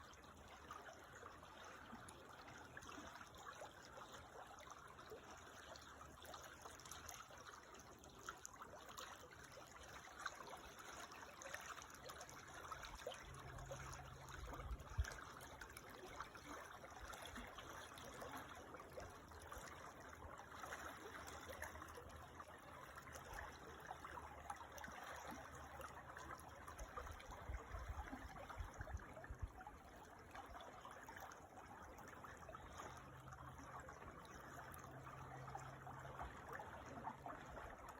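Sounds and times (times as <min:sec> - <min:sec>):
creek water babbling over stones: 0:00.0 - 0:37.9.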